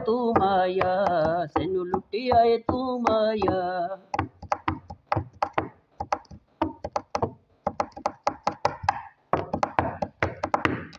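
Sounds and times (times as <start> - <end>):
rapid knocks on hard surface: 0.0 - 10.9.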